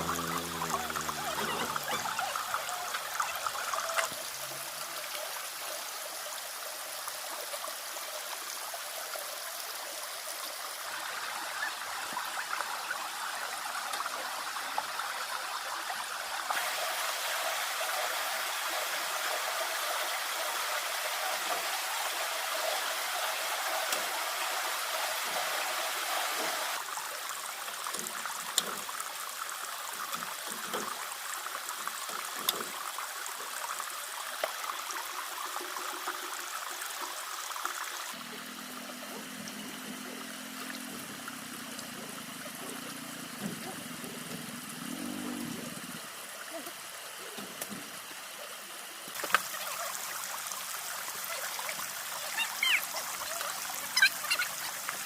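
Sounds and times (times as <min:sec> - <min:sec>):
running water splashing: 0:00.0 - 0:55.0.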